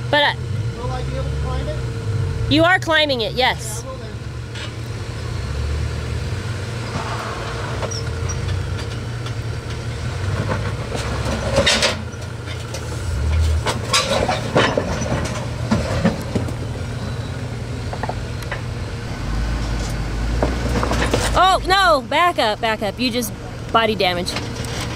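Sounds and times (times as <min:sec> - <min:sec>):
low engine rumble: 0:00.0 - 0:24.9.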